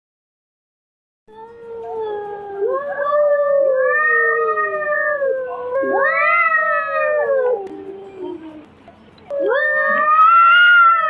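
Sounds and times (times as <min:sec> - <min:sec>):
cat yowling: 0:01.4 - 0:08.6, 0:09.3 - 0:11.0.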